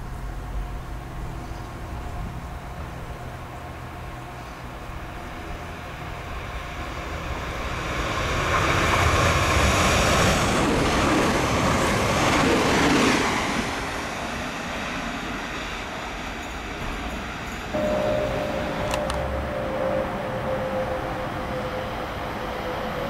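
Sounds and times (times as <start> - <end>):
electric train passing at speed: 0.0 - 23.0.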